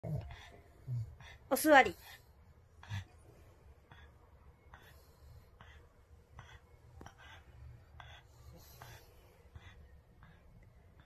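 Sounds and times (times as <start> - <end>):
dog breathing hoarsely: 0.0 - 11.0.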